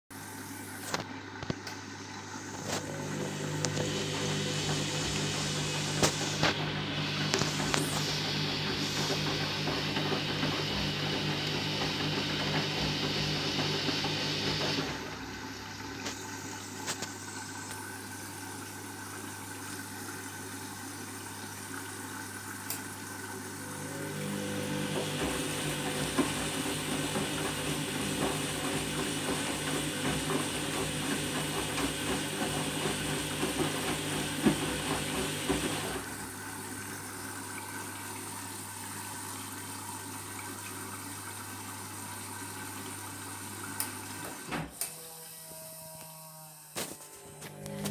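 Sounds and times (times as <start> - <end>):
washing machine humming: 0.1 - 47.9
water rushing into drum: 0.4 - 44.6.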